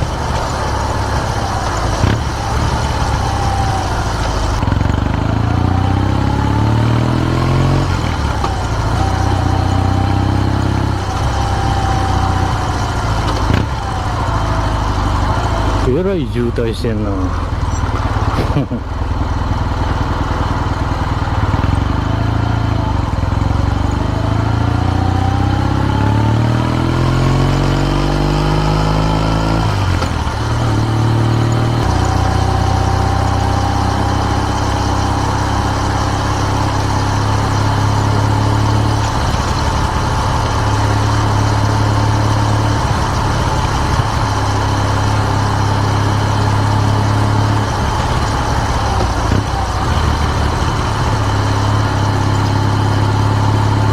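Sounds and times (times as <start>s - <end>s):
motorcycle exhaust accelerating: 0.0s - 53.9s.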